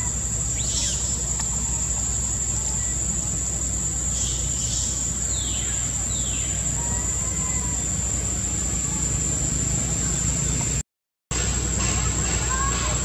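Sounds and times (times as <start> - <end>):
high-pitched insect drone: 0.0 - 10.6.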